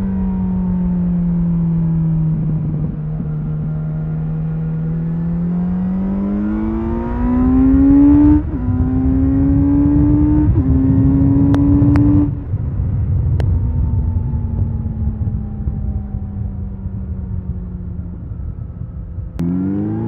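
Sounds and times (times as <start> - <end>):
motorcycle engine accelerating: 0.0 - 20.0
wind and road noise: 0.0 - 20.0.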